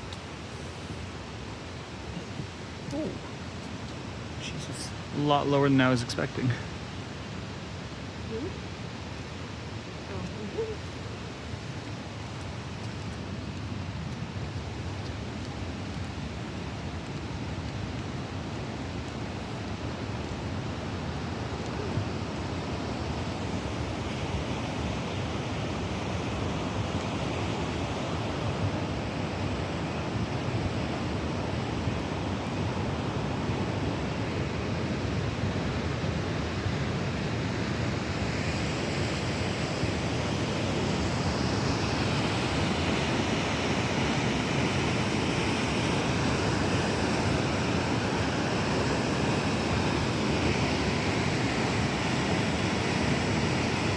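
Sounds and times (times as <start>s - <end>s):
rushing creek and waterfall: 0.0s - 53.9s.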